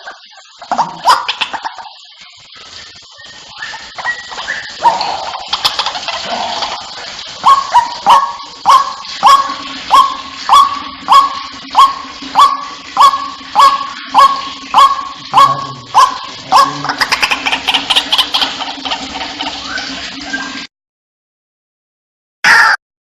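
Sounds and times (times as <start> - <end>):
waterhen calling: 0.0 - 20.7, 22.5 - 22.8.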